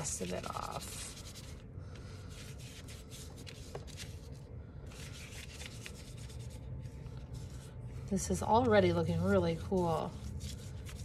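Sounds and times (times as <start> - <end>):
paintbrush scrubbing on paper: 0.0 - 11.0.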